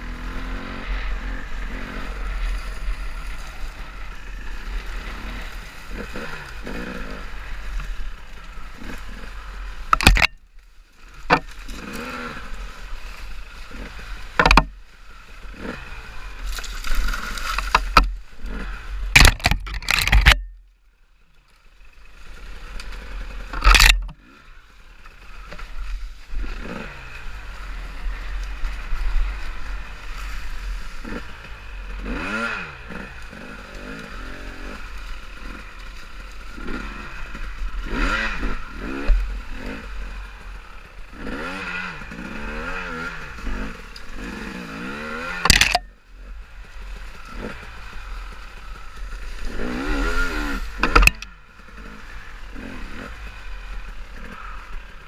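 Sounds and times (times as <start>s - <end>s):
off-road motorcycle engine: 0.0s - 55.0s.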